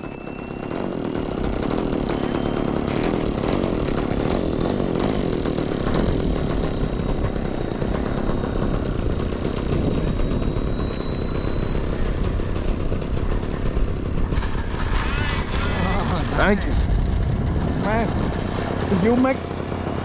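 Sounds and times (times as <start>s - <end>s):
model airplane engine buzzing: 0.0s - 20.0s
thin high whine: 0.0s - 20.0s.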